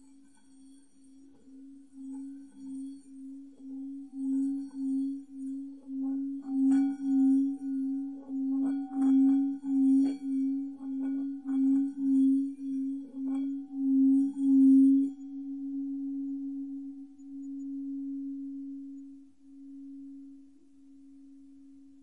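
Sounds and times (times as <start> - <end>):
singing bowl ringing: 0.0 - 20.2.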